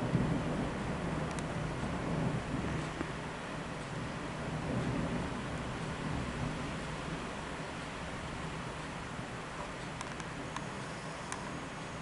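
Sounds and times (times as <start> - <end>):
gusting wind: 0.0 - 12.0
heavy rain: 0.0 - 12.0.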